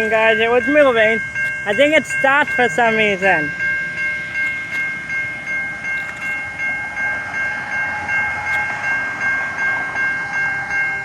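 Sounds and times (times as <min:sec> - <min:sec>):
railroad crossing bell ringing: 0:00.0 - 0:11.0.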